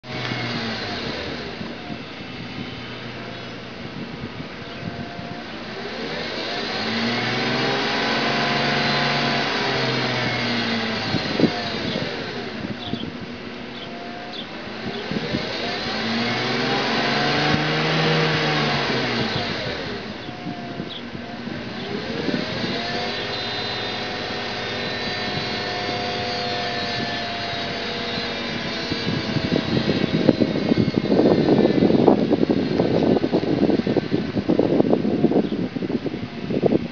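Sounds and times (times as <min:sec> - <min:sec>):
car engine revving: 0:00.0 - 0:36.9
engine bay whine: 0:00.0 - 0:36.9.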